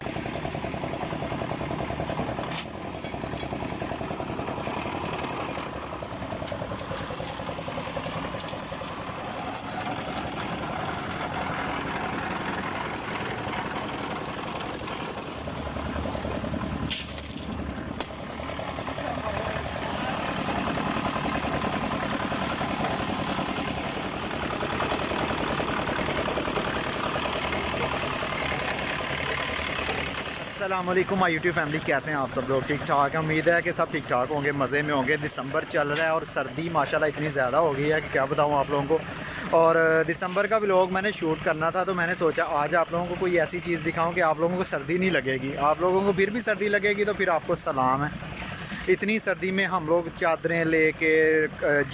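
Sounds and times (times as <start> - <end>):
machinery engine running: 0.0 - 51.9.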